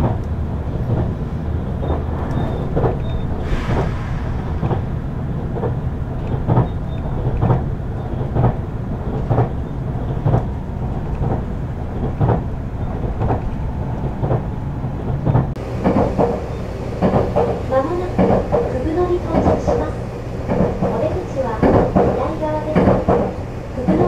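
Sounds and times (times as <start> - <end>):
wheels clicking over rail joints: 0.0 - 3.4, 5.5 - 24.0
train interior rumble: 0.0 - 24.0.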